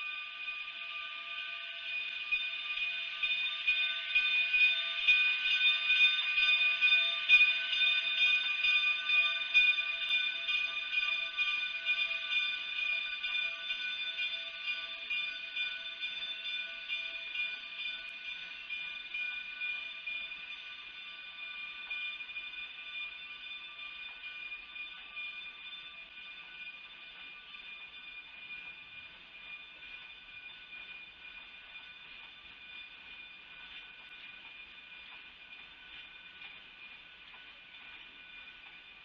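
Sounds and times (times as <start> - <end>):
steady high tones: 0.0 - 39.0.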